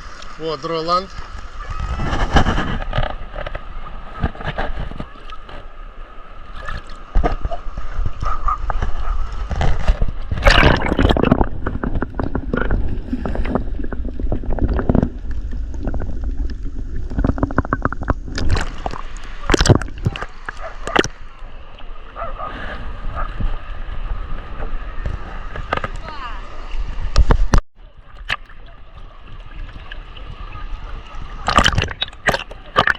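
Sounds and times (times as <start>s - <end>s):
small waves washing onto beach: 0.0s - 32.9s.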